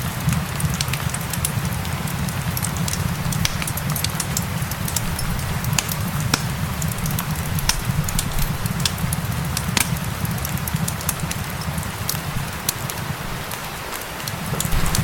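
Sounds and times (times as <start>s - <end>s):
rain hissing: 0.0s - 15.0s
wood fire crackling and popping: 0.0s - 15.0s.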